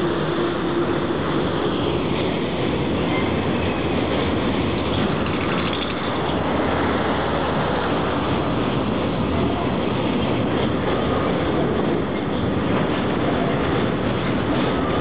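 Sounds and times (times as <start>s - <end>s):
train wheels running on rails: 0.0s - 15.0s.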